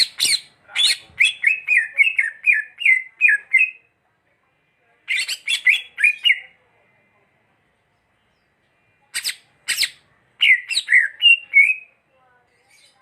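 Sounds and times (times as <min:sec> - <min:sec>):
bird chirping: 0:00.0 - 0:03.9, 0:05.0 - 0:06.6, 0:07.8 - 0:13.0.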